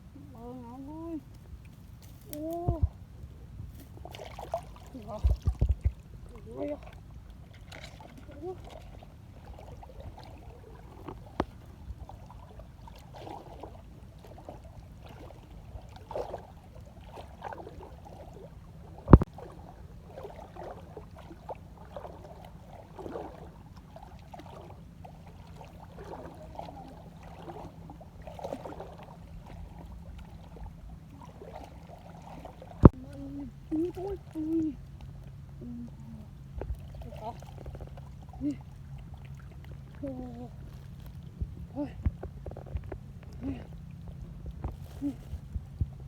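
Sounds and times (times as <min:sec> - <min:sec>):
water and mud splashing: 0:00.0 - 0:46.0.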